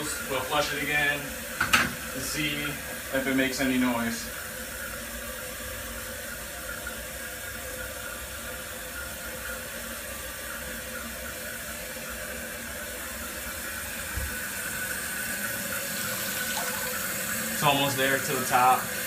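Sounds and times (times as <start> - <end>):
toilet tank refilling: 0.0 - 19.0.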